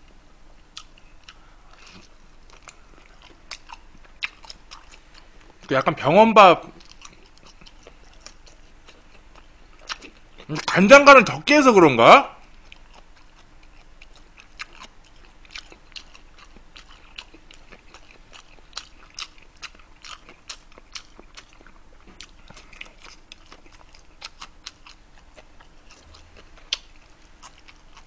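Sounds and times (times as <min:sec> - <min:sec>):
wet chewing clicks and smacks: 0:00.8 - 0:05.7, 0:06.7 - 0:10.7, 0:12.4 - 0:28.0.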